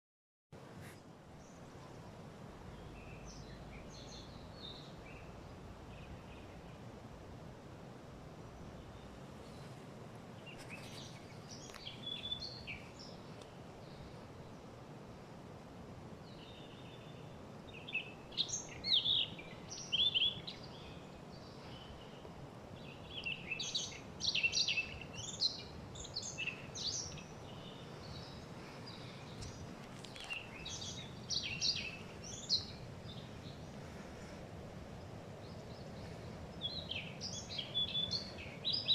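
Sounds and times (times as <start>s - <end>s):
low background hiss: 0.6s - 38.9s
songbirds chirping: 0.6s - 38.9s.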